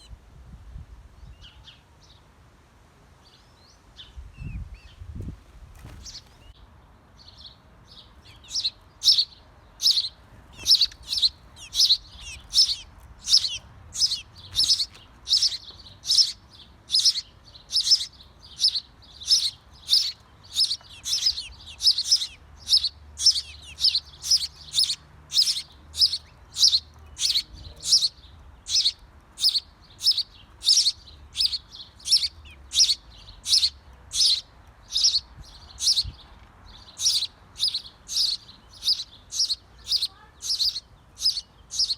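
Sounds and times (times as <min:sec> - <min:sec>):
small bird chirping: 0:07.2 - 0:41.9.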